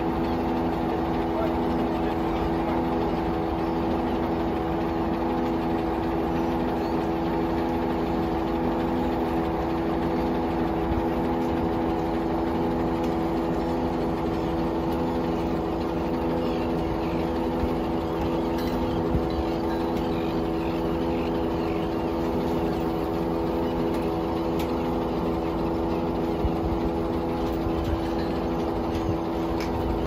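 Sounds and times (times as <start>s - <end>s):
crane diesel engine idling: 0.0s - 30.0s.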